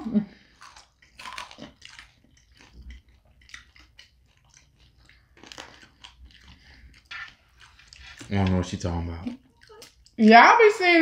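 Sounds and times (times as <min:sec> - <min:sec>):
chewing pizza: 0:00.4 - 0:10.3.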